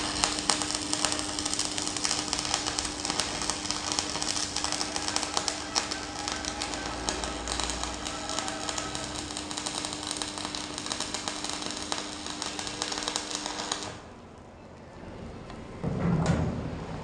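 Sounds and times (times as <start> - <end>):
electric arc welding crackle: 0.0 - 14.1.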